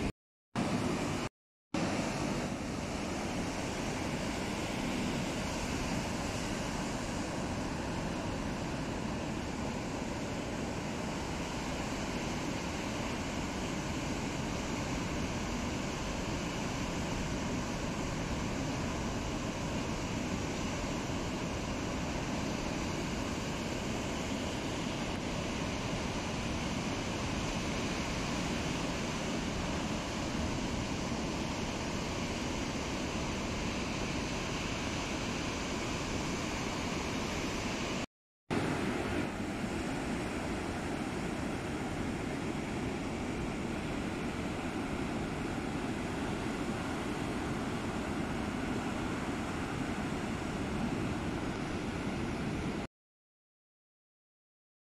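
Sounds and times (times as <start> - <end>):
heavy surf breaking on beach: 0.0 - 52.9.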